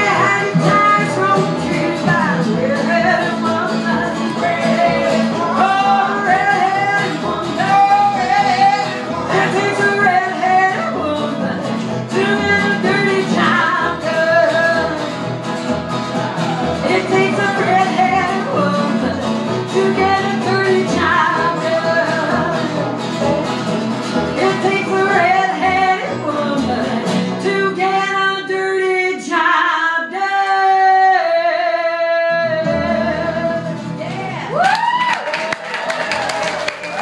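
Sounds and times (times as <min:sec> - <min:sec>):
woman singing: 0:00.0 - 0:15.2, 0:16.7 - 0:23.4, 0:24.2 - 0:34.6
upright bass: 0:00.0 - 0:28.4, 0:32.2 - 0:35.1
banjo: 0:00.0 - 0:34.7
acoustic guitar: 0:00.0 - 0:37.0.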